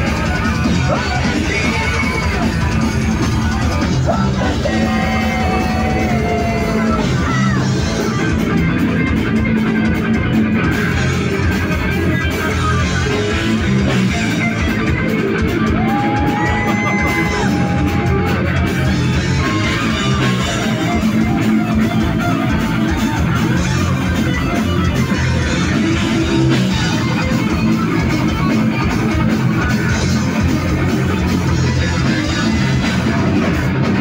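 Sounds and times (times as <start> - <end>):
bass: 0.0 - 34.0
distorted electric guitars: 0.0 - 34.0
drums: 0.0 - 34.0.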